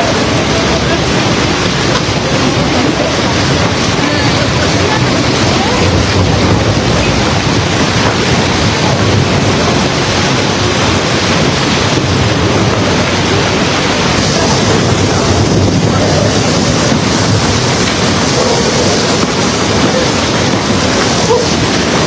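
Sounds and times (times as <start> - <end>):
heavy rain: 0.0 - 22.0
wind buffeting microphone: 0.0 - 22.0.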